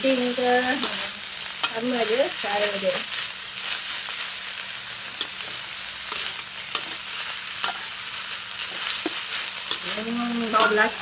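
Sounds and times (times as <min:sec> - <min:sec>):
stir-frying sizzle: 0:00.0 - 0:11.0.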